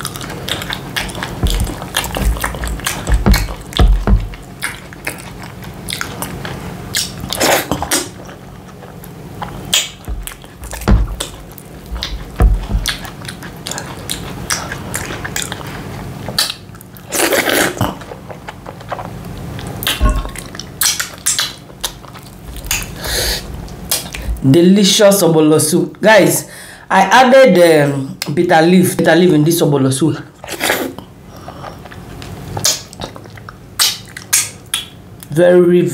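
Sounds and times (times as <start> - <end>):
wet chewing and lip smacking: 0.0 - 24.4, 30.4 - 35.3
low steady hum: 0.0 - 35.9.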